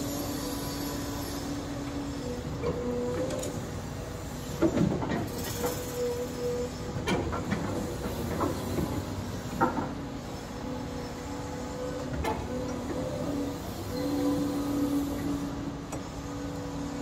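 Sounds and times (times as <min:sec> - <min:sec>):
excavator engine hum: 0:00.0 - 0:17.0.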